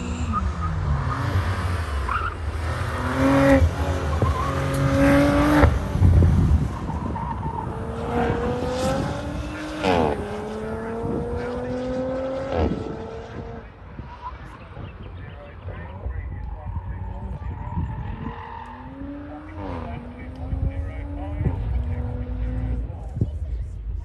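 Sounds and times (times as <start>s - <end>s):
car engine revving through gears: 0.0s - 14.4s, 15.6s - 23.3s.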